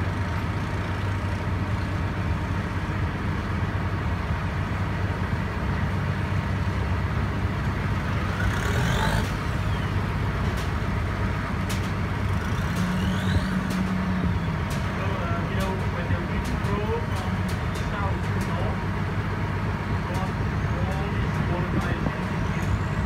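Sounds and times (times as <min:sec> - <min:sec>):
motorboat engine humming: 0:00.0 - 0:23.0.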